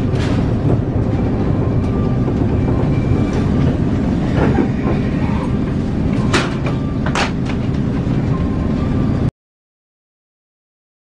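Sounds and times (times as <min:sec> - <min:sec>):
train rumbling on rails: 0:00.0 - 0:09.3.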